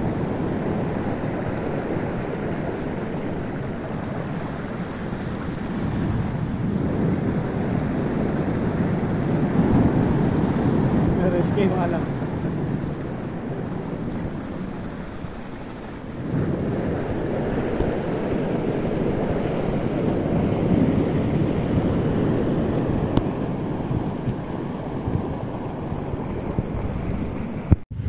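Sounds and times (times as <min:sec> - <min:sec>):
surf breaking on shore: 0:00.0 - 0:28.0
wind buffeting microphone: 0:00.0 - 0:28.0.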